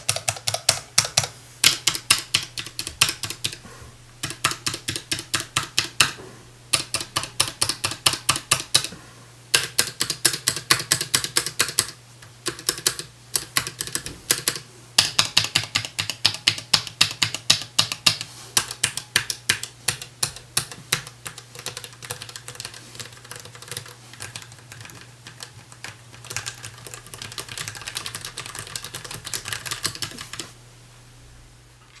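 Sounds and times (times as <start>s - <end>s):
mechanical keyboard keystrokes: 0.0s - 3.6s, 4.2s - 8.9s, 9.5s - 30.5s
low steady hum: 0.0s - 32.0s.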